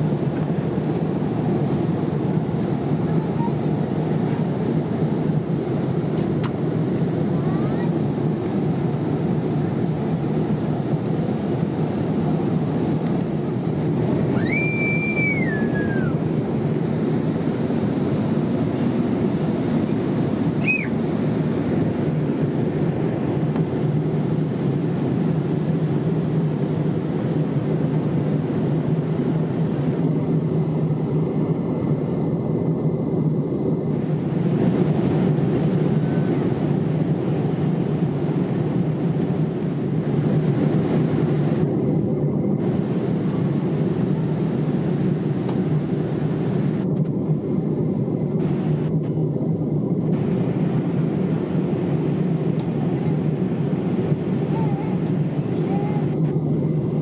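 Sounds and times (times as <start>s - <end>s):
airliner cabin engine drone: 0.0s - 57.0s.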